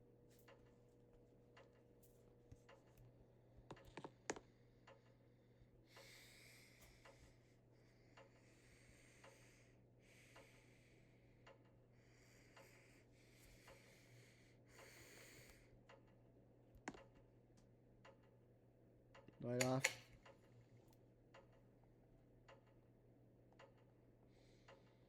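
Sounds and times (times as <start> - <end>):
ceiling fan ticking and humming: 0.0 - 25.0.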